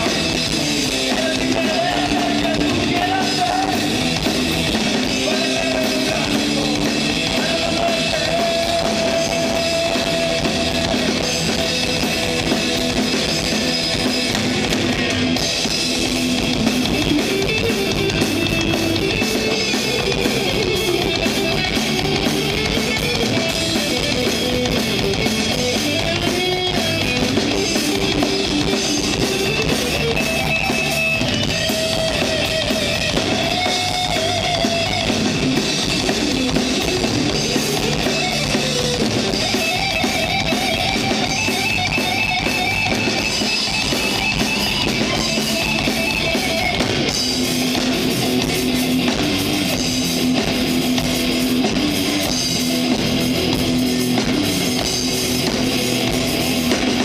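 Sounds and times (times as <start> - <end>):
distorted electric guitars: 0.0 - 57.0
drum kit: 0.0 - 57.0
guitar lead line: 0.0 - 57.0.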